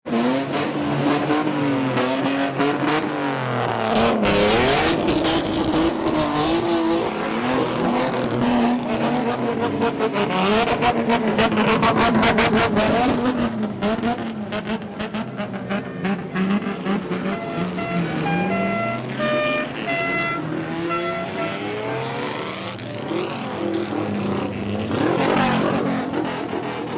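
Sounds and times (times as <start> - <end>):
car engine revving: 0.1 - 26.9.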